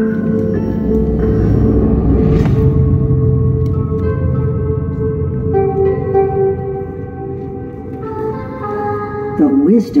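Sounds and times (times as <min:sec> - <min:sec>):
low rumble: 0:00.0 - 0:08.0
ambient droning music: 0:00.0 - 0:10.0.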